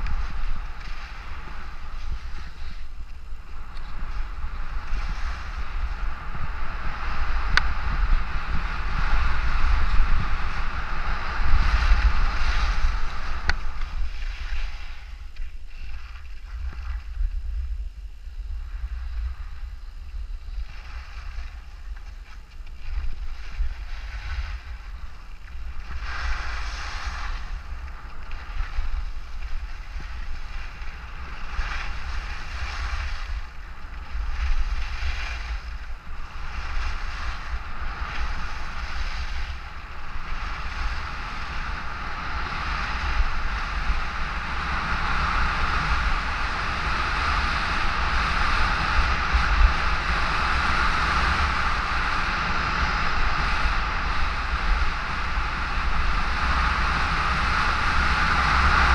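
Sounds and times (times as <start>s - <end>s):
skis scraping over snow: 0.0s - 58.9s
wind buffeting microphone: 0.0s - 58.9s.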